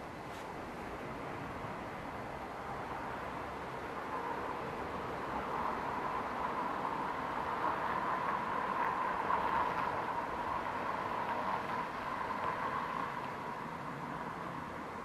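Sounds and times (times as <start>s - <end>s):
electric train rolling on track: 1.0s - 15.0s.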